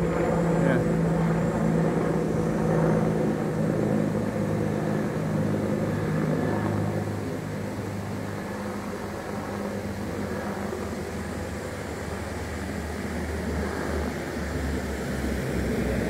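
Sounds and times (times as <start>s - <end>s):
helicopter engine and rotors droning: 0.0s - 16.0s.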